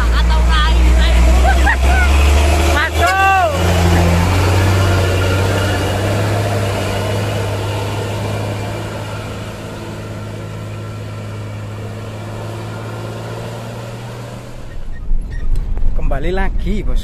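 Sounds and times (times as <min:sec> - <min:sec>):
truck diesel engine running: 0:00.0 - 0:15.8.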